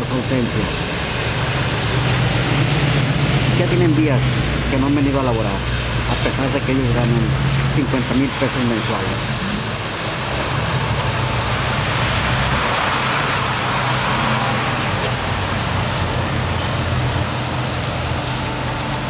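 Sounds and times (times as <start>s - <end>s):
traffic engine hum: 0.0s - 19.0s
vehicle passing: 0.3s - 19.0s.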